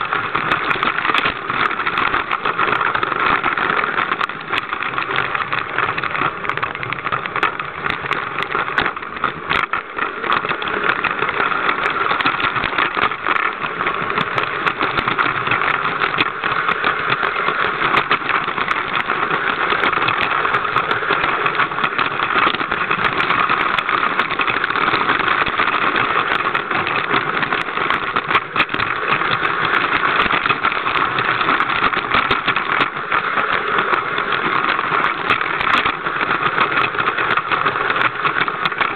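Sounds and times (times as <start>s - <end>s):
toy train motor whirring: 0.0s - 38.9s
wheels rattling and clicking: 0.0s - 38.9s.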